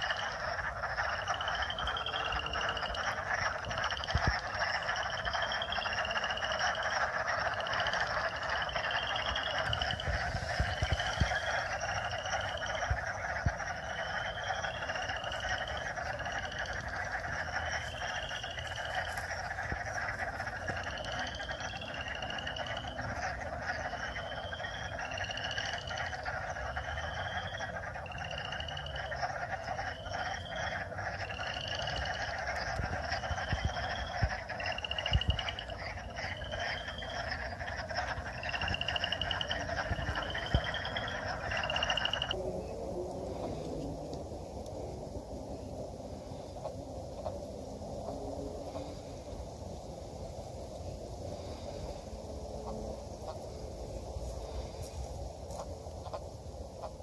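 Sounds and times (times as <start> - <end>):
frog rising trills: 0.0 - 46.9
frog chorus: 0.0 - 57.0.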